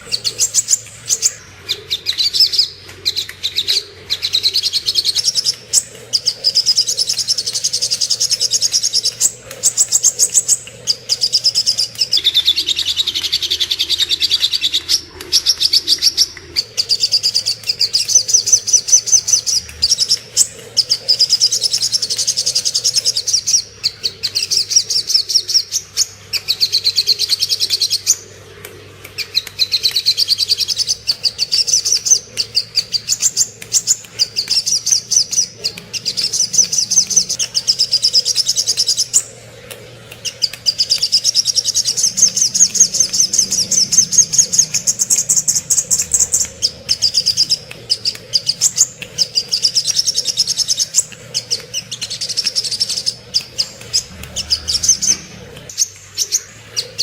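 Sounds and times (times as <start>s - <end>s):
bird singing high-pitched trills: 0.0s - 14.8s, 15.4s - 28.2s, 29.3s - 39.4s, 40.2s - 57.0s.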